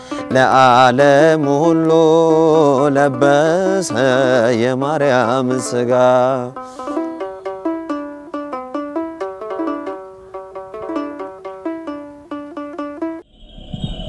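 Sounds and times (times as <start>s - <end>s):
plucked string instrument melody: 0.0s - 13.2s.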